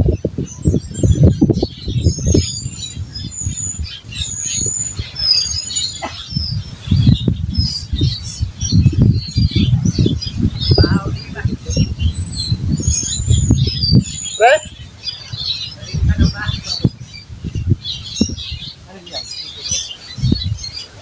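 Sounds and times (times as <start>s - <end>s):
low rumbling: 0.0s - 18.9s
birds chirping: 0.0s - 21.0s.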